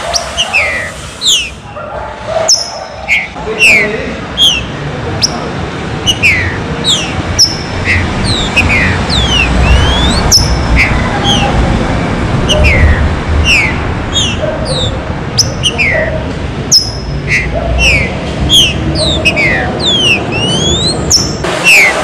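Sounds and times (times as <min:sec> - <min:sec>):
bird chirping and whistling: 0:00.0 - 0:01.6, 0:02.5 - 0:05.4, 0:06.0 - 0:22.0.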